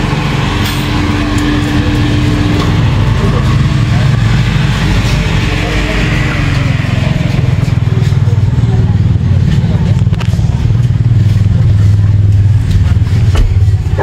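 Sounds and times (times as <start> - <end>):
steady hum: 0.0 - 14.0
vehicle engine droning: 0.0 - 14.0.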